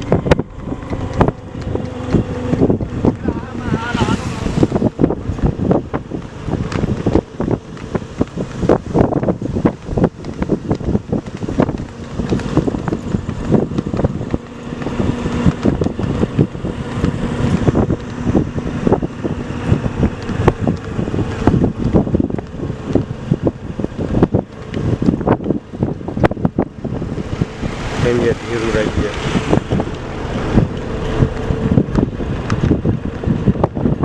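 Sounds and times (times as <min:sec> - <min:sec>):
irregular thumps: 0:00.0 - 0:03.7, 0:04.4 - 0:34.0
vehicle engine hum: 0:00.0 - 0:34.0
wind buffeting microphone: 0:00.0 - 0:34.0.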